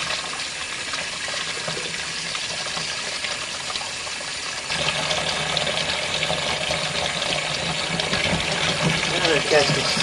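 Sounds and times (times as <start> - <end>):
water running into washing machine tub: 0.0 - 10.0.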